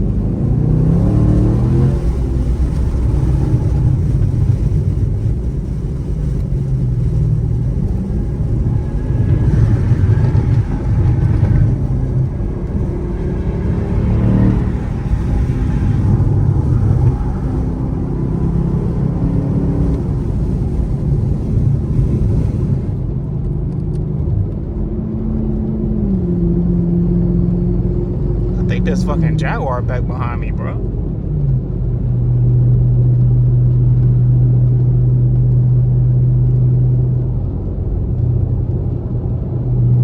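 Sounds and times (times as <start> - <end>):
car engine and exhaust revving: 0.0 - 40.0.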